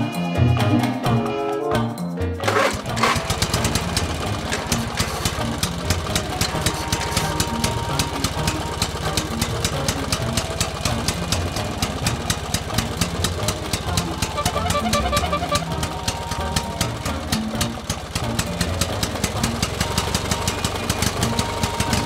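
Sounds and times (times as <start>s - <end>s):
tractor diesel engine running: 2.4s - 22.0s.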